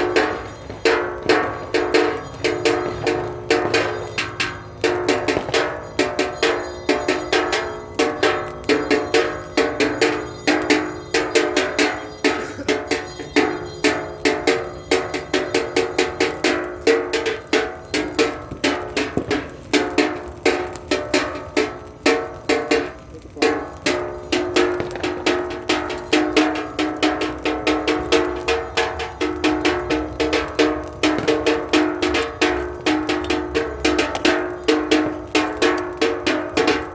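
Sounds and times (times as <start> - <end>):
metallic percussive strikes: 0.0 - 36.9.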